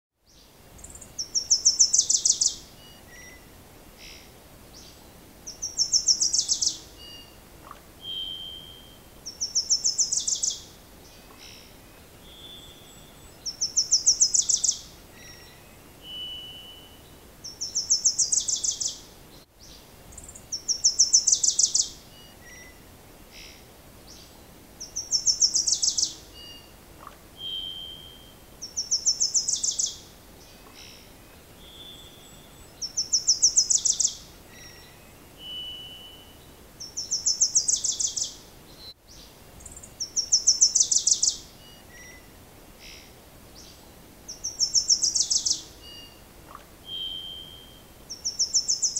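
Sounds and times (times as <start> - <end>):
songbird singing: 0.2 - 48.9.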